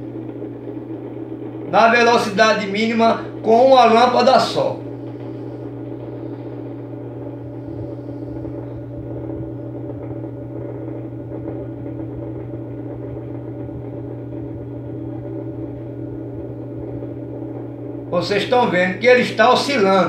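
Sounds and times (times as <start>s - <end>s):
electric fan motor hum: 0.0s - 20.0s.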